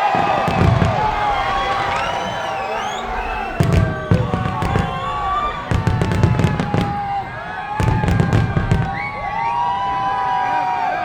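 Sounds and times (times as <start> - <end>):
fireworks exploding: 0.0 - 11.0
whistling fireworks: 0.0 - 11.0.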